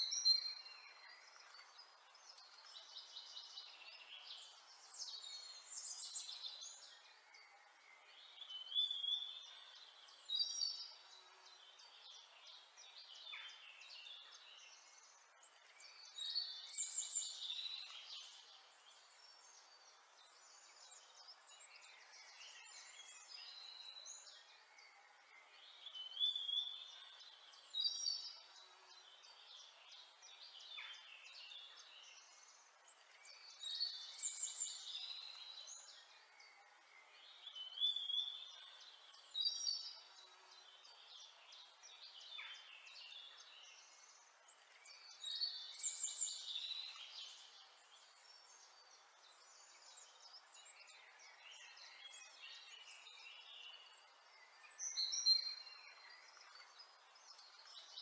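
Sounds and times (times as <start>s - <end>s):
faint steady hiss: 0.0s - 58.0s
small birds chirping and singing: 0.0s - 58.0s.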